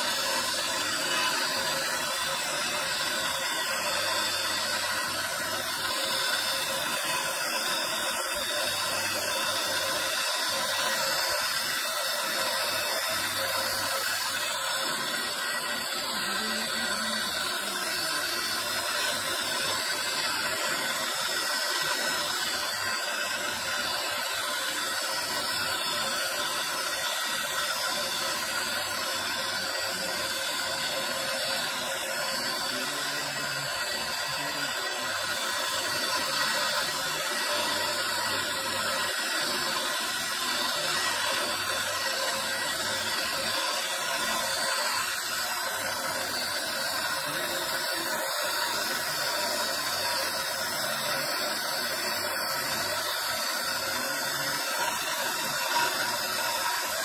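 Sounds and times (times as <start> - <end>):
electric carving spindle running: 0.0 - 57.0.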